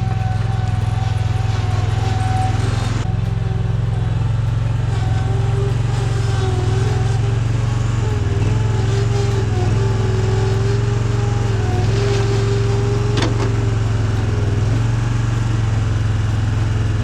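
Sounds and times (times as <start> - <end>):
earth-moving machine engine running: 0.0 - 17.0.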